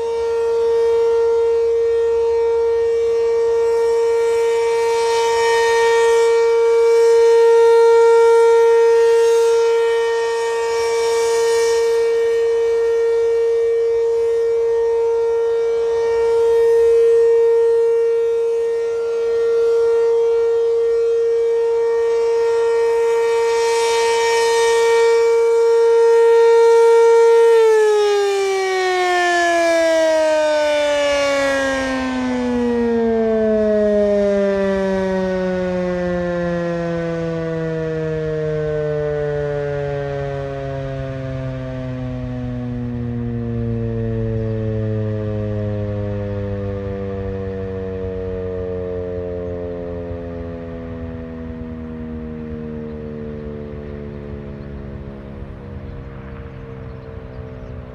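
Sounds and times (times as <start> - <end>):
warning siren: 0.0 - 57.9.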